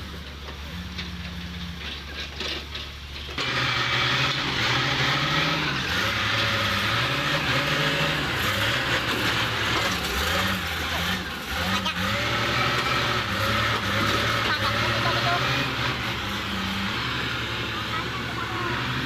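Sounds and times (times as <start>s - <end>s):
heavy machinery engine under load: 0.0s - 19.0s.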